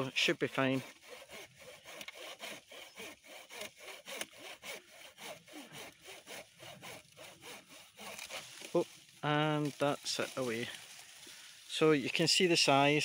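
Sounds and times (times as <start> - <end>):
hand saw cutting branch: 0.0 - 13.0.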